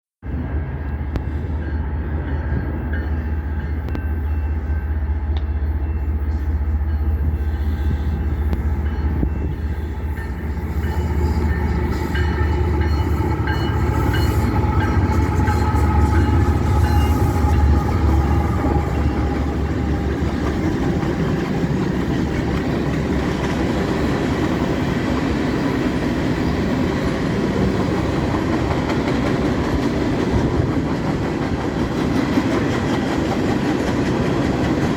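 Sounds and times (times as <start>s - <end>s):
diesel locomotive engine rumble: 0.2s - 34.9s.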